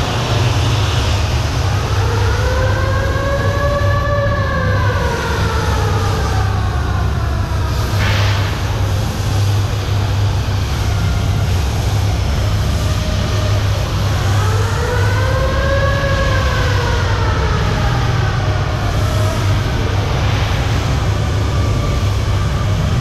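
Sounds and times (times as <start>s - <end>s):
engine-room machinery drone: 0.0s - 23.0s
whining tone: 0.0s - 23.0s.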